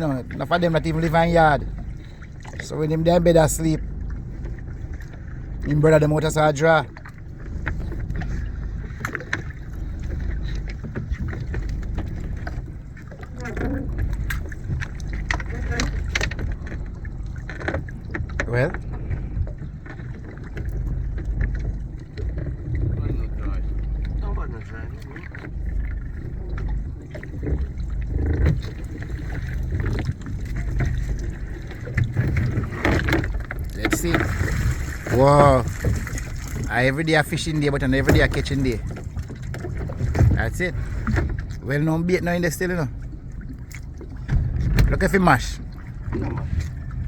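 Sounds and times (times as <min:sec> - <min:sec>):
boat engine low rumble: 0:00.0 - 0:47.0
water sloshing and splashing: 0:00.0 - 0:47.0.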